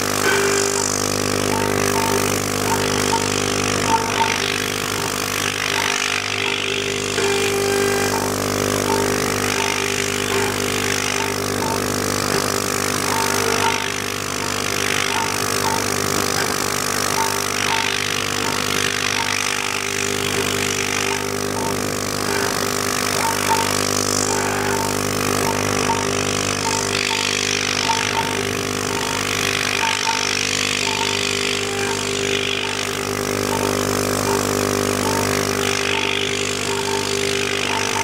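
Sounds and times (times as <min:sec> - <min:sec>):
router spindle whine: 0:00.0 - 0:38.0.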